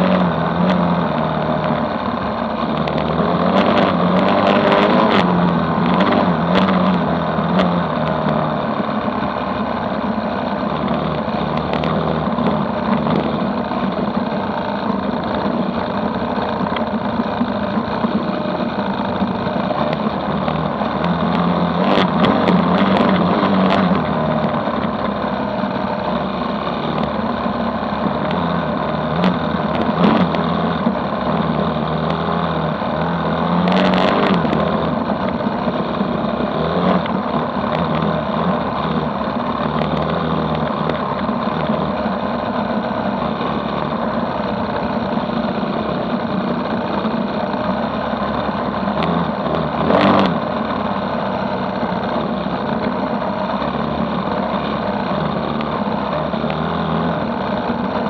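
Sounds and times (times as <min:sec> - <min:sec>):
dirt bike engine: 0:00.0 - 0:58.0
wind and road noise: 0:00.0 - 0:58.0.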